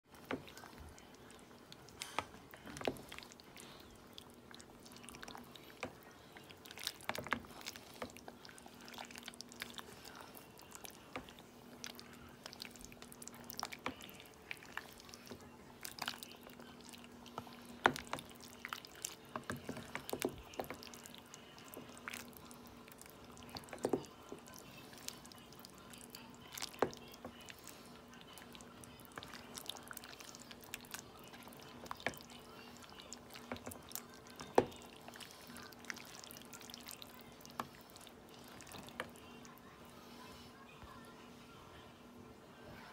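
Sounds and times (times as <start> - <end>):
soft liquid sloshes: 0.1 - 41.0
faint low hum: 0.1 - 42.9.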